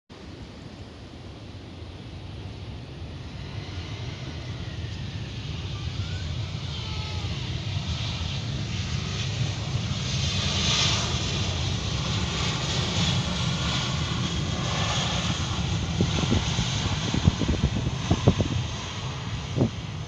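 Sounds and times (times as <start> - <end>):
airliner engine roar passing: 0.1 - 20.0.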